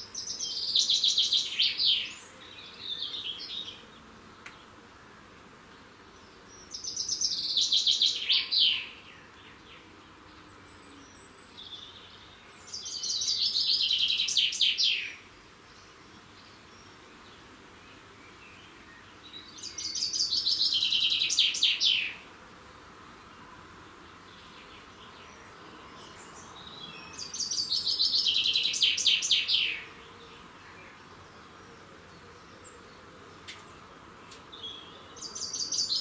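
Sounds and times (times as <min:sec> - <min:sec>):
songbird singing: 0:00.0 - 0:04.8, 0:05.7 - 0:22.4, 0:23.0 - 0:36.0.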